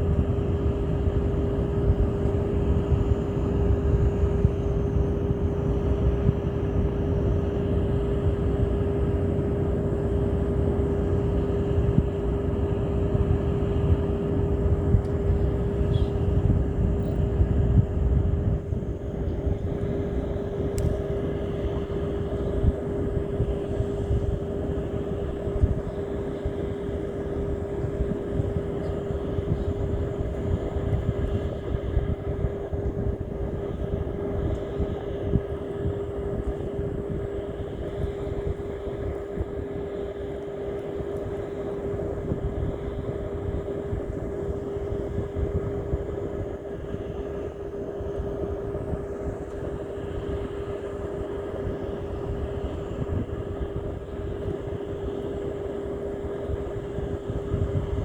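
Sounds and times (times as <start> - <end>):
motor drone: 0.0 - 58.0.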